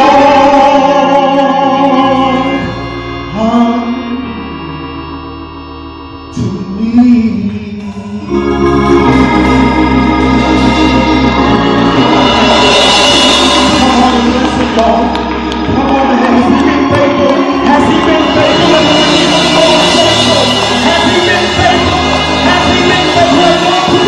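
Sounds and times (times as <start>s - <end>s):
church band with organ chords: 0.0s - 24.0s.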